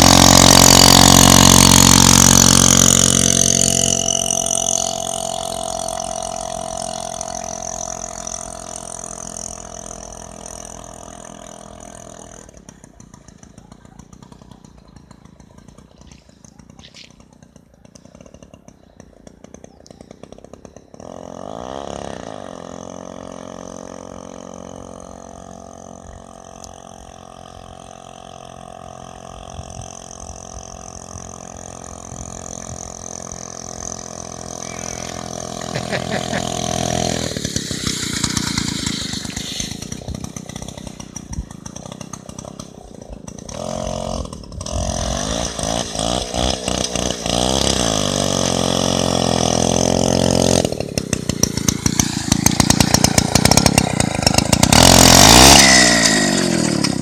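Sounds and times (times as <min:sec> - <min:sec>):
two-stroke chainsaw engine: 0:00.0 - 0:57.0.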